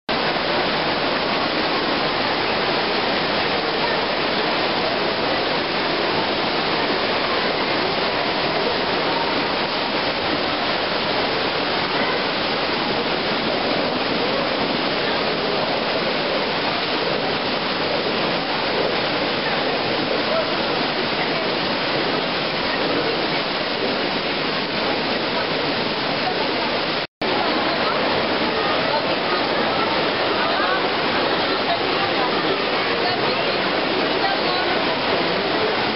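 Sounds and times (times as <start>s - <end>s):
fountain water splashing: 0.1s - 35.9s.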